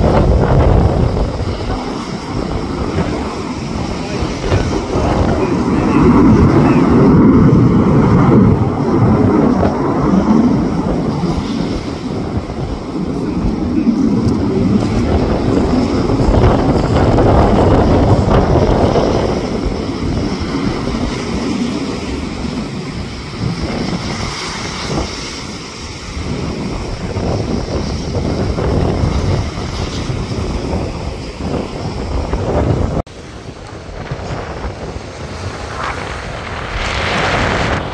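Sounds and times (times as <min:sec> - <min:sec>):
jet aircraft roaring overhead: 0:00.0 - 0:37.9
wind buffeting microphone: 0:00.0 - 0:37.9.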